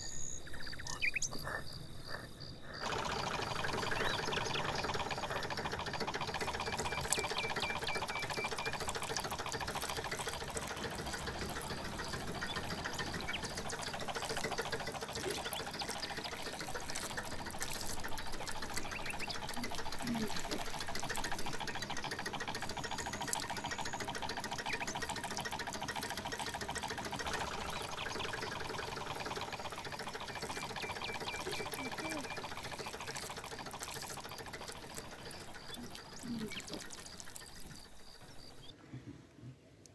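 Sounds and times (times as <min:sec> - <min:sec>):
water splashing onto mud: 0:02.8 - 0:38.7
small pump motor whirring: 0:02.8 - 0:38.8.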